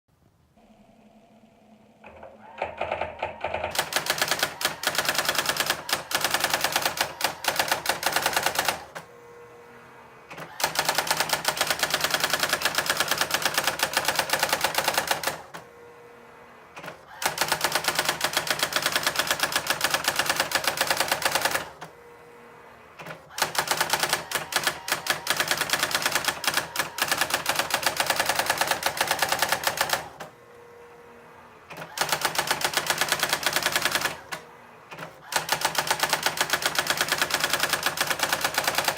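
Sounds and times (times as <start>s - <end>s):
electronic typewriter clicking: 2.0s - 9.0s, 10.3s - 15.6s, 16.8s - 21.8s, 23.0s - 30.3s, 31.7s - 38.9s.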